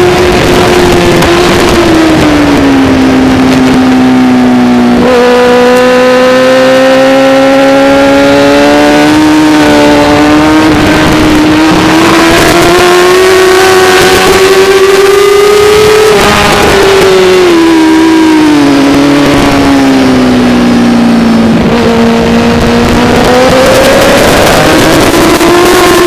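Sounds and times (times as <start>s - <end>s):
racing motorcycle engine revving: 0.0s - 26.0s
wind rush: 0.0s - 26.0s.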